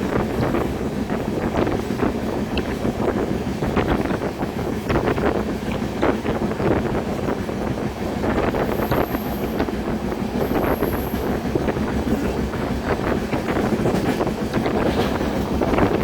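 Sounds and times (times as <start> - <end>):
train wheel and carriage rattle: 0.0 - 16.0
wind buffeting microphone: 0.0 - 16.0.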